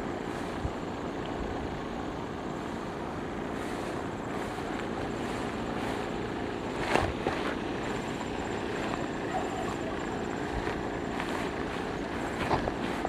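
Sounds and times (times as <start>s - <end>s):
distant motor drone: 0.0s - 13.0s.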